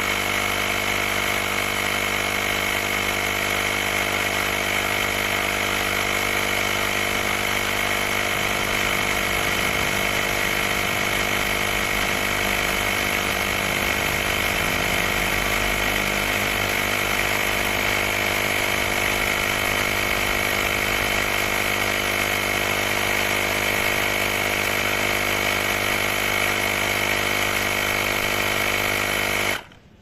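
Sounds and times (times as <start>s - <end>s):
portable air compressor running: 0.0s - 30.0s.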